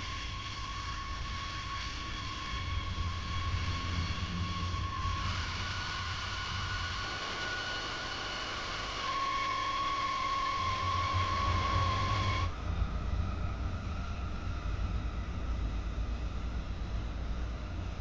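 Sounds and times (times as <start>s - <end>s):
jet turbine whining: 0.0s - 17.8s.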